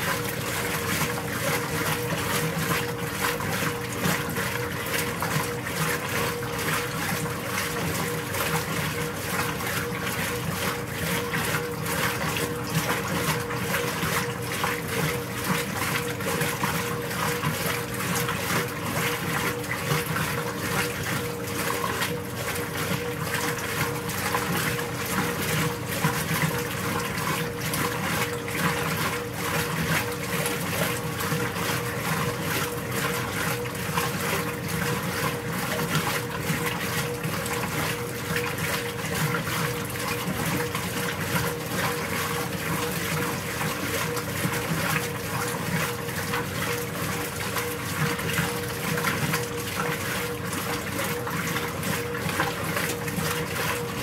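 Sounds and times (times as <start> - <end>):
washing machine motor hum: 0.0 - 54.0
washing machine water sloshing: 0.0 - 54.0.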